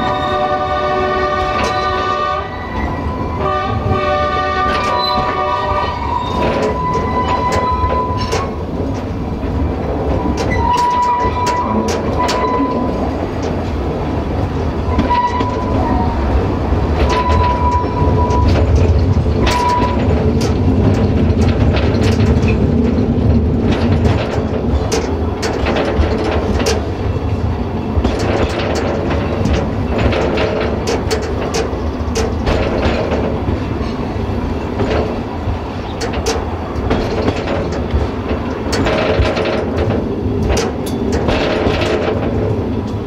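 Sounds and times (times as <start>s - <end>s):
knocks from rail joints: 0.0s - 2.4s, 3.7s - 13.8s, 16.9s - 43.0s
train rumbling on track: 0.0s - 43.0s.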